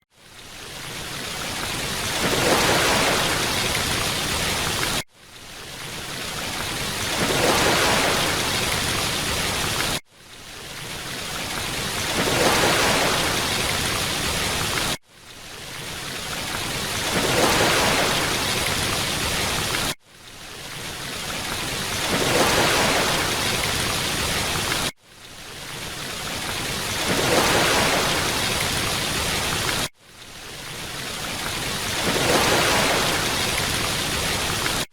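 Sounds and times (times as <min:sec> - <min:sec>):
rush of falling water: 0:00.1 - 0:34.9.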